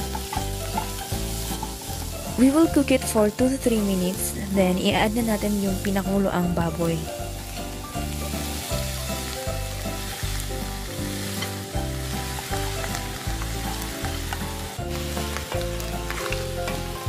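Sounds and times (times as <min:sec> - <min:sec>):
background music with steady beat: 0:00.0 - 0:17.0
meat sizzling in a frying pan: 0:00.0 - 0:17.0.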